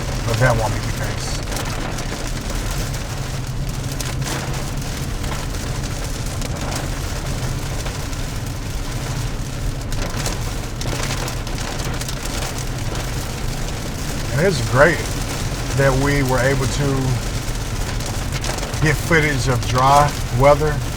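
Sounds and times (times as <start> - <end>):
rain and wet road noise: 0.0 - 20.9.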